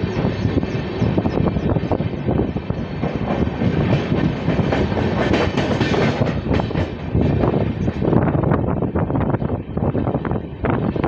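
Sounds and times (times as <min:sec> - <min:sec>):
rush of train wheels on rail: 0:00.0 - 0:11.0.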